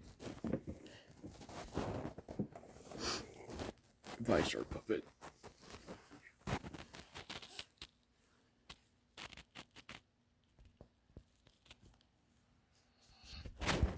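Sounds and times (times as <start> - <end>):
faint handling clicks and rustles: 0.0 - 13.6.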